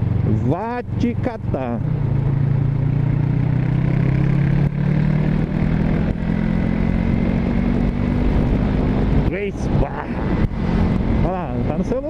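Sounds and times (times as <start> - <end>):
low wind rumble: 0.0 - 12.0
motorcycle engine running: 0.0 - 12.0.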